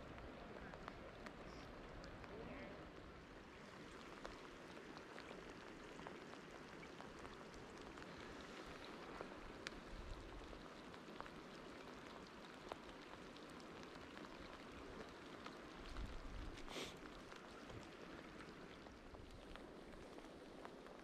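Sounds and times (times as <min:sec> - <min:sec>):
light rain on water: 0:00.0 - 0:21.0
raindrop ticks: 0:00.0 - 0:21.0.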